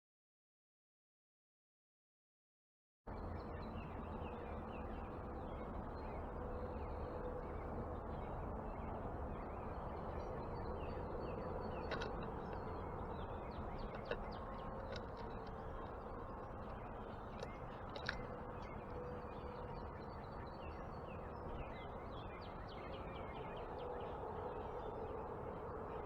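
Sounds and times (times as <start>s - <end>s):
outdoor noise bed: 3.1s - 26.0s.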